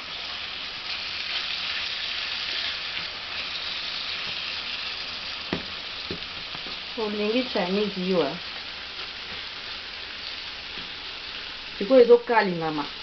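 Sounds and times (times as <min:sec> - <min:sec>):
beef sizzling in frying pan: 0:00.0 - 0:13.0.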